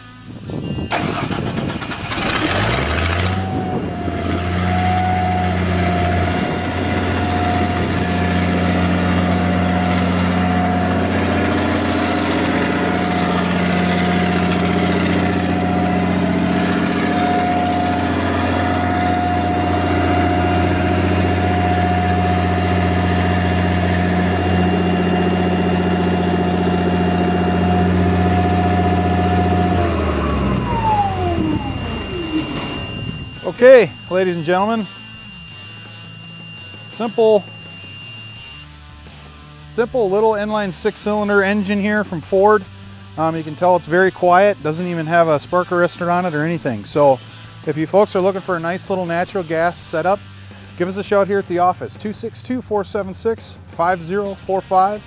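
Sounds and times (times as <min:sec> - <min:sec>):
steady whine: 0:00.0 - 0:54.6
generator engine running: 0:00.6 - 0:55.0.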